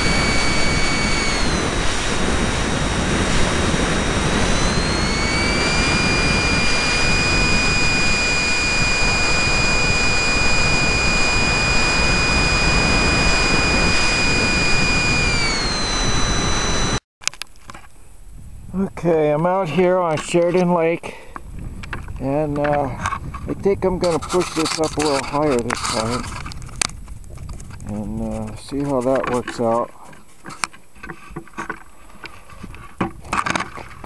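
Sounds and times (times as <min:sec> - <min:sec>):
model plane electric motor whine: 0:00.0 - 0:17.0, 0:21.8 - 0:34.0
wind on microphone: 0:00.0 - 0:17.0, 0:18.2 - 0:20.0, 0:21.3 - 0:34.0.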